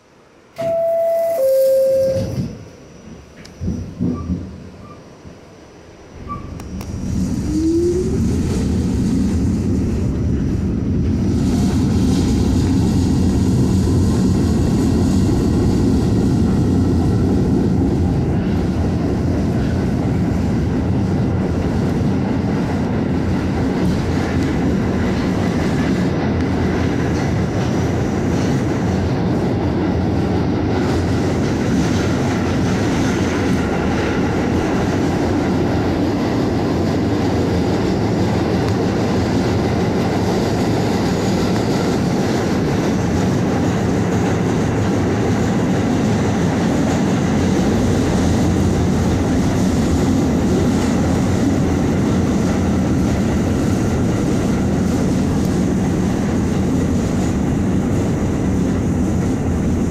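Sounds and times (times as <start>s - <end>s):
rumble of wheels on rails: 1.7s - 59.9s.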